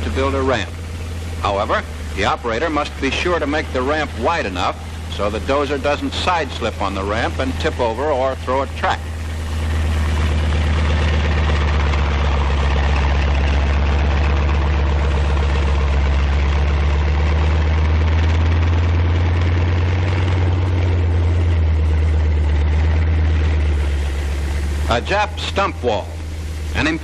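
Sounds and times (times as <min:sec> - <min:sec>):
tank engine droning: 0:00.0 - 0:27.0.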